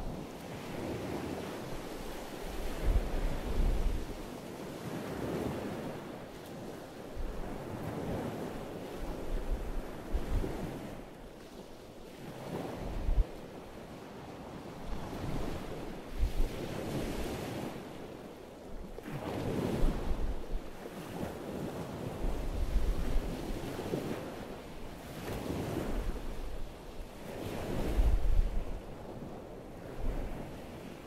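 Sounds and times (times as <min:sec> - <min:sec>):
wind buffeting microphone: 0:00.0 - 0:06.1, 0:07.2 - 0:11.1, 0:12.4 - 0:13.4, 0:14.4 - 0:18.0, 0:18.9 - 0:31.0.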